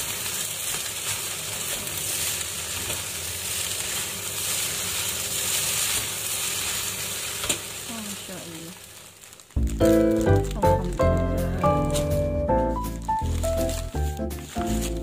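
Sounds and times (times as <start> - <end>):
fried rice sizzling in a pan: 0.0 - 15.0.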